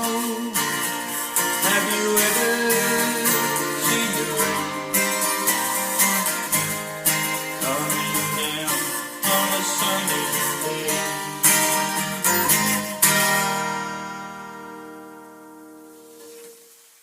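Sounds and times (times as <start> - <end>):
slow strummed acoustic guitar music: 0.0 - 16.9.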